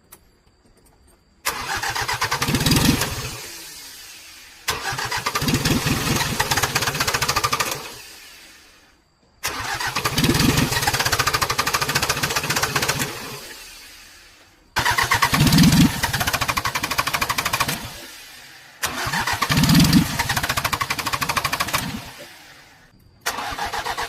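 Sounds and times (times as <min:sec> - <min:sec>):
diesel engine starting and chugging: 0:01.4 - 0:24.0.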